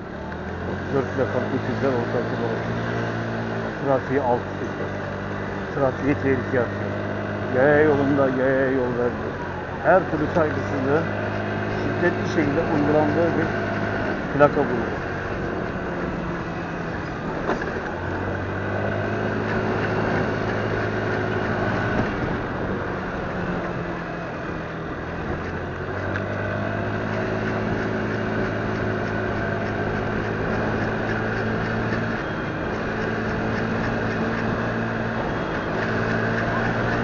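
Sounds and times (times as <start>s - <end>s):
motorcycle engine running: 0.0s - 37.0s
wind and road noise: 0.0s - 37.0s.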